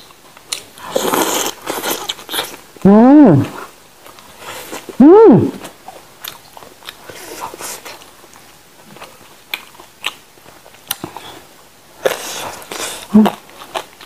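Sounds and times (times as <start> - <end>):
person chewing crunchy food: 0.0 - 2.8, 3.4 - 14.0.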